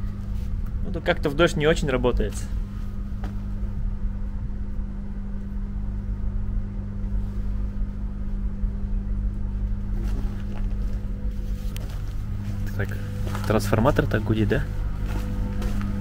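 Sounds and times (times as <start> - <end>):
diesel generator humming: 0.0 - 16.0.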